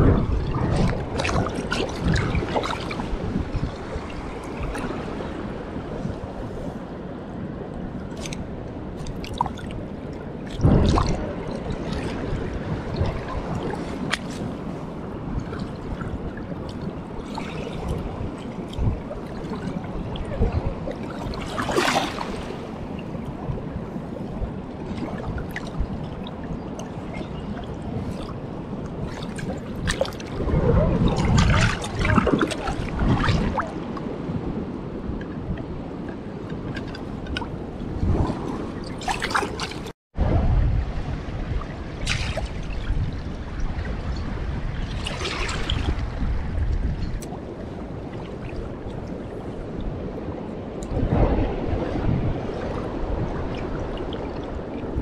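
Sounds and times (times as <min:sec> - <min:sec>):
river water sloshing and gurgling: 0:00.0 - 0:55.0.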